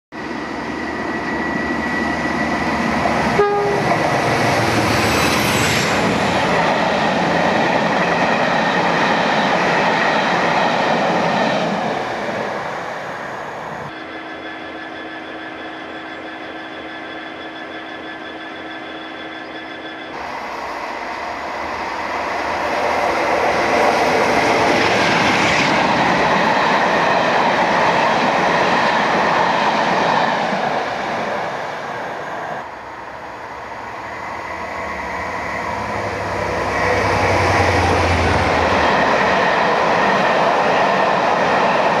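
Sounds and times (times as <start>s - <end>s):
diesel locomotive engine hum: 0.1s - 42.0s
train wheels rumbling on rails: 0.1s - 42.0s.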